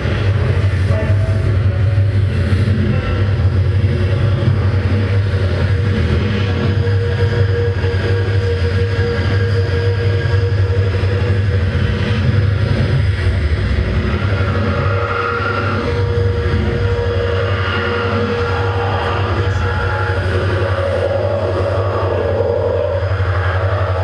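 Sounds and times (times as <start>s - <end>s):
band playing drone: 0.0s - 24.0s.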